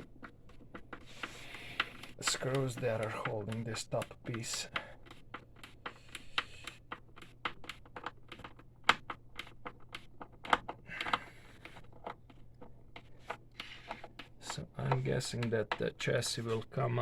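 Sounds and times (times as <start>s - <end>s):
screwdriver clicking on screws: 0.0s - 15.9s.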